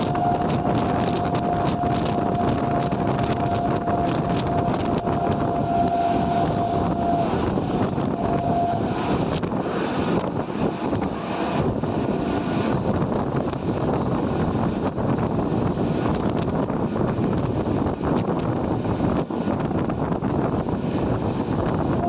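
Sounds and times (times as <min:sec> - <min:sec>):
train passing at speed: 0:00.0 - 0:22.0
wheels clicking on rails: 0:00.0 - 0:22.0.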